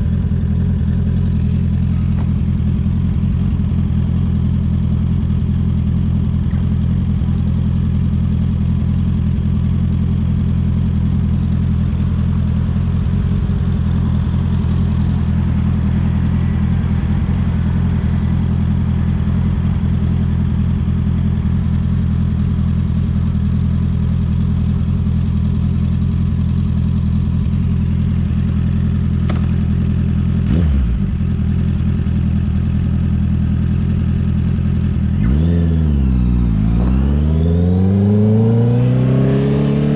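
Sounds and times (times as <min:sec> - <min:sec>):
motorcycle engine idling: 0:00.0 - 0:38.6.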